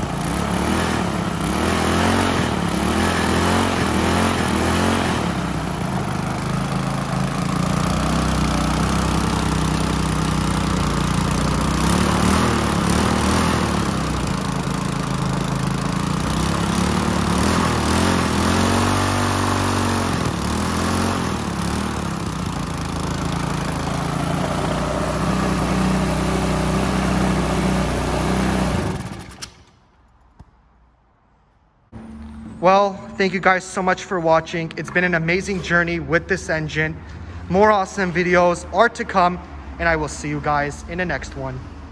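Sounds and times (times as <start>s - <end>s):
lawn mower engine running: 0.0s - 30.0s, 31.9s - 41.1s.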